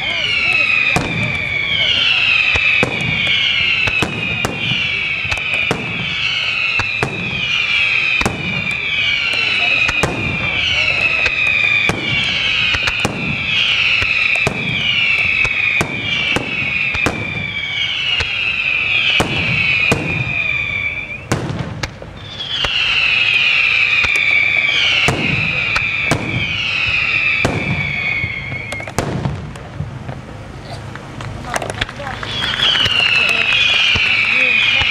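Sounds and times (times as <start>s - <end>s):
high descending whistles: 0.0s - 21.4s, 22.2s - 29.0s, 32.0s - 34.9s
fireworks bangs: 0.0s - 34.9s.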